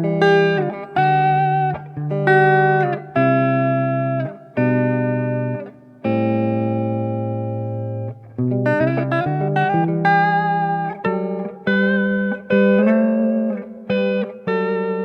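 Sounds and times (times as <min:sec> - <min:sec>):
electric guitar chords: 0:00.0 - 0:15.0
electric guitar picked notes: 0:00.0 - 0:15.0.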